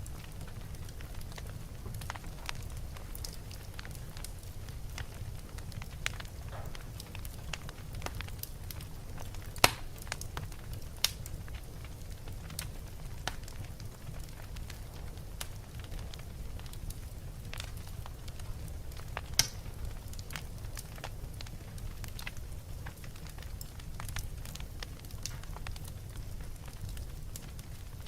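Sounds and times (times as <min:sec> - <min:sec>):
wood fire crackling: 0:00.0 - 0:28.0
sharp fire pops: 0:04.9 - 0:27.8.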